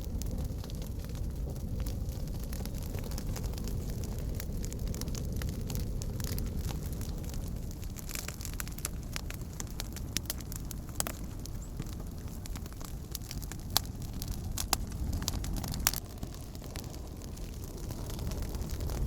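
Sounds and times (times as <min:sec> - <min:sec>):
campfire rumble: 0:00.0 - 0:19.0
fire crackles and pops: 0:00.0 - 0:19.0.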